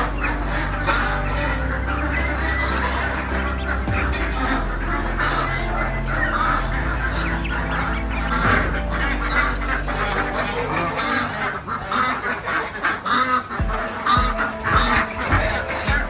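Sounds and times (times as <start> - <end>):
low thumping beat: 0.0 - 10.9, 13.6 - 16.0
music: 0.0 - 12.6, 13.4 - 16.0
ducks quacking: 0.0 - 16.0
geese honking: 0.0 - 16.0.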